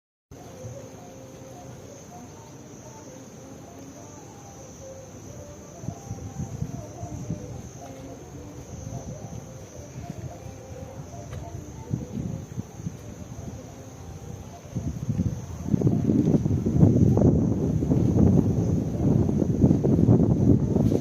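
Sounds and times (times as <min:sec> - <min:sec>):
crickets trilling: 0:00.3 - 0:21.0.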